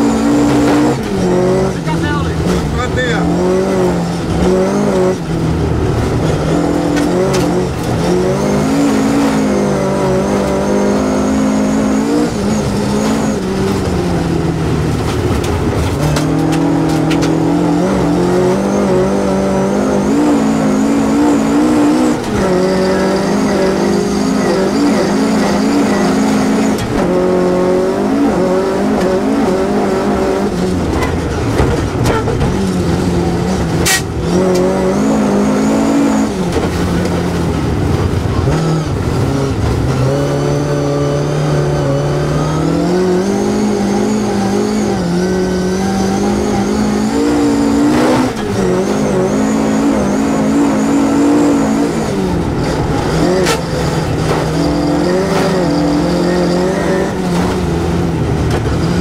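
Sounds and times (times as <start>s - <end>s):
car engine revving: 0.0s - 59.0s
tyre and road noise: 0.0s - 59.0s.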